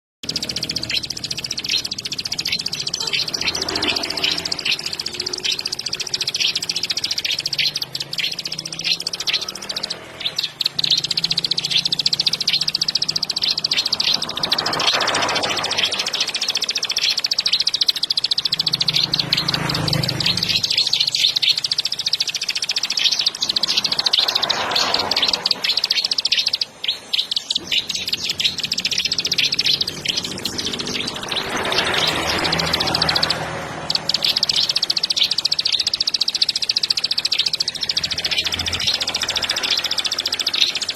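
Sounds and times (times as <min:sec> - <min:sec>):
bird chattering song: 0:00.2 - 0:40.9.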